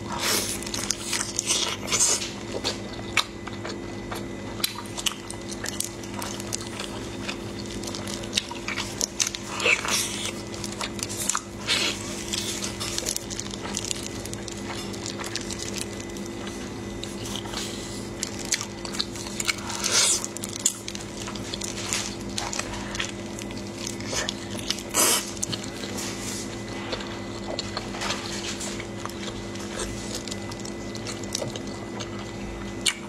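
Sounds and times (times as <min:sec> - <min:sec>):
chewing: 0:00.0 - 0:33.0
steady low hum: 0:00.0 - 0:33.0
wet squishing of meat: 0:00.0 - 0:33.0.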